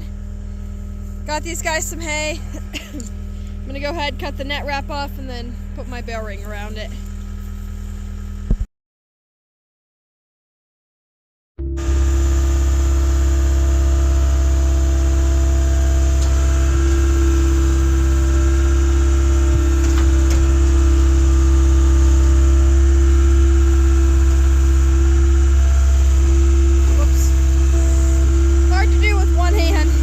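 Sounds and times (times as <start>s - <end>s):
engine running with low drone: 0.0s - 8.7s, 11.6s - 30.0s.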